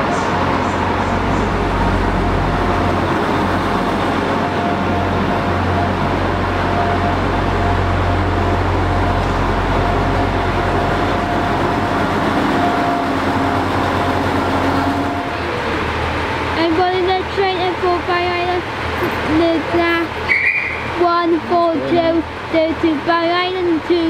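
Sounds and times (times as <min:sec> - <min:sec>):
thin steady whine: 0:00.0 - 0:24.0
train hum and rumble: 0:00.0 - 0:24.0.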